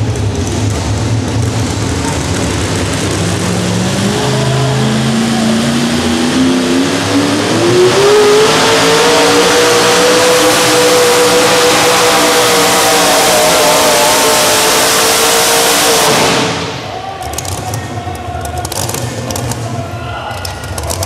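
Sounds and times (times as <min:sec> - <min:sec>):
truck engine winding up under load: 0:00.0 - 0:19.8.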